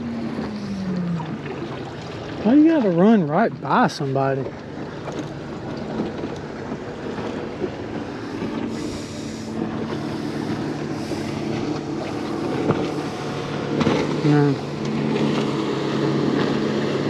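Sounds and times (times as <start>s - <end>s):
outboard motor droning: 0.0s - 17.0s
water sounds: 0.0s - 17.0s.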